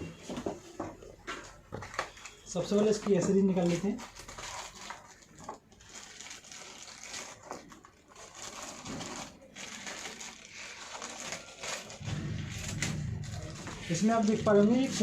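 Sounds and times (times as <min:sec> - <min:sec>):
packaging rustling and scraping: 0:01.3 - 0:15.0.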